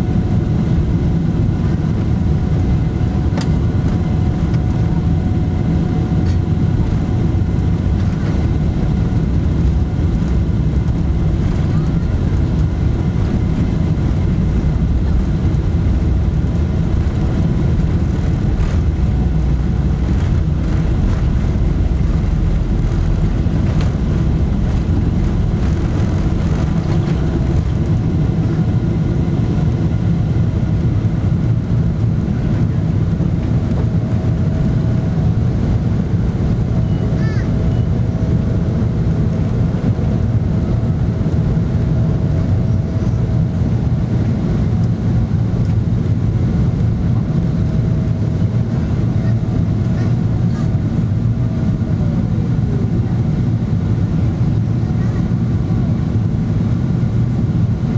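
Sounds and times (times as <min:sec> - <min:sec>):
airplane cabin rumble: 0:00.0 - 0:57.9
faint steady engine tones: 0:00.0 - 0:57.9.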